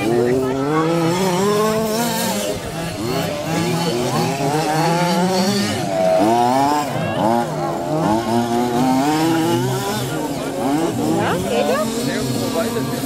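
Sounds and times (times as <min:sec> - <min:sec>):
small two-stroke engines racing: 0:00.0 - 0:13.0.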